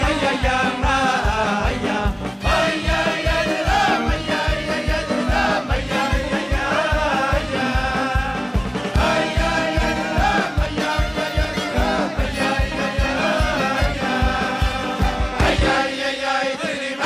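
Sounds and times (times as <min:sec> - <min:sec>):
fast steady beat: 0:00.0 - 0:17.0
men singing together: 0:00.0 - 0:17.0.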